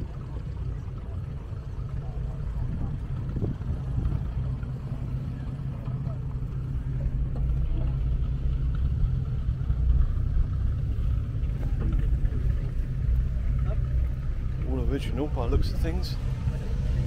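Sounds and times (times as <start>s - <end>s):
faint voices: 0.0s - 17.0s
low engine drone: 0.0s - 17.0s.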